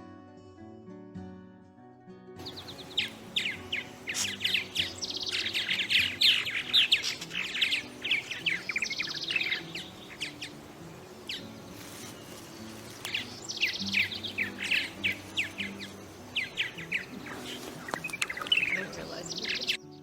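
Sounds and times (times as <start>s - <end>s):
birds chirping: 2.4s - 20.0s.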